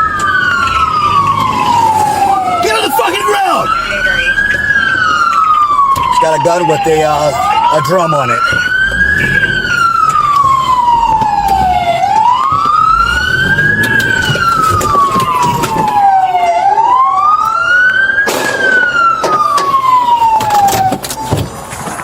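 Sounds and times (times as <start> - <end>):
police siren wailing: 0.0 - 21.7.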